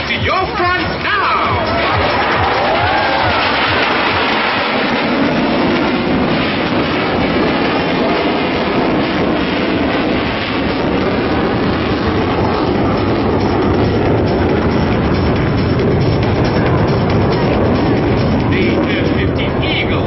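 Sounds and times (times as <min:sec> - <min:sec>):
fighter jet engine roar: 0:00.0 - 0:20.0.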